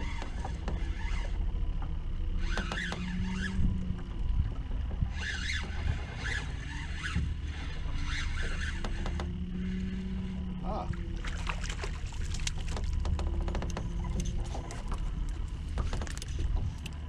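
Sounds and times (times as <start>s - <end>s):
wind and water noise: 0.0s - 17.0s.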